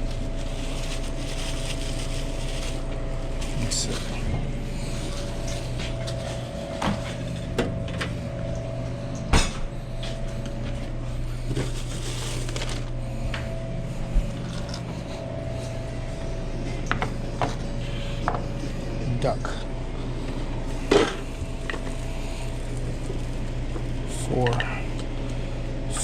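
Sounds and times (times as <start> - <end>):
kitchen equipment hum: 0.0 - 26.0.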